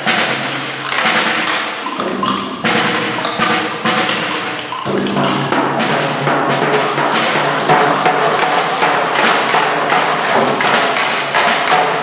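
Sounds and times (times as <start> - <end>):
frame drum: 0.0 - 12.0
hand percussion clatter: 0.0 - 12.0
snare drum: 0.0 - 12.0.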